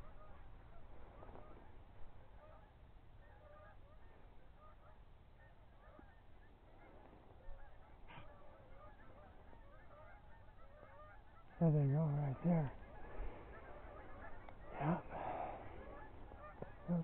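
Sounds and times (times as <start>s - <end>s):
distant geese honking: 0.0s - 17.0s.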